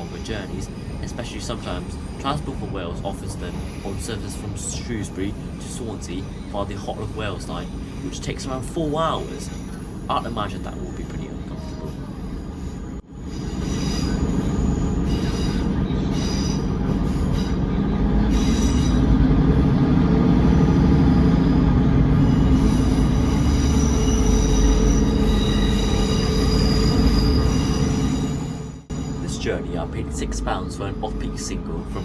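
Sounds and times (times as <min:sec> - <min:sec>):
wheel squeal: 0:00.0 - 0:29.6
train rumble: 0:00.0 - 0:32.0.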